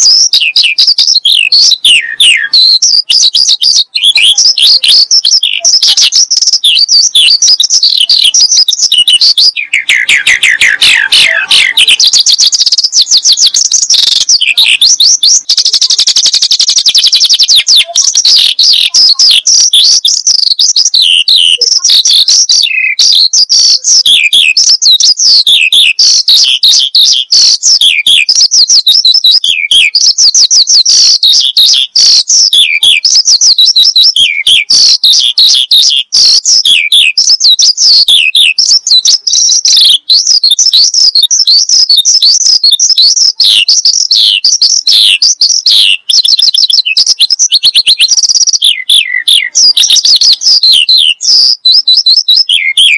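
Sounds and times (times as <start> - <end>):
bird singing high chirps and trills: 0.0 - 52.9.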